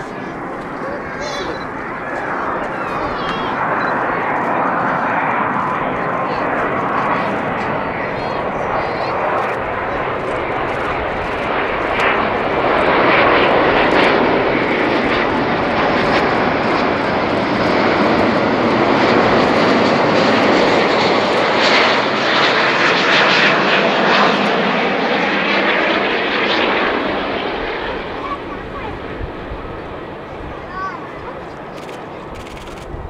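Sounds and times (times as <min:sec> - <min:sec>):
jet airliner passing: 0:00.0 - 0:33.0.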